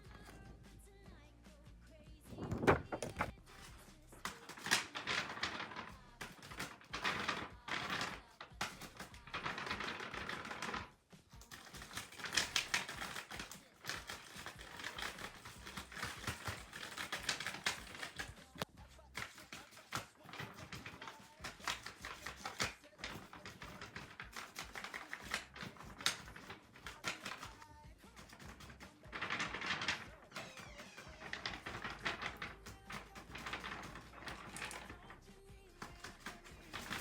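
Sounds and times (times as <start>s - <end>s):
folded paper rustling and clicking: 2.3s - 37.0s.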